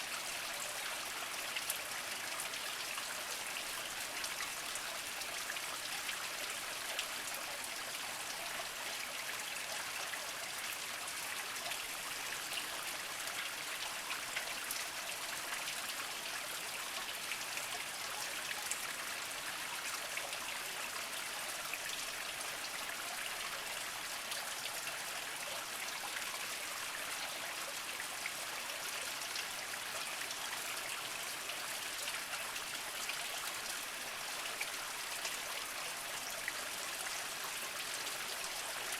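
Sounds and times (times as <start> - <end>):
water trickling over rocks: 0.0 - 38.9.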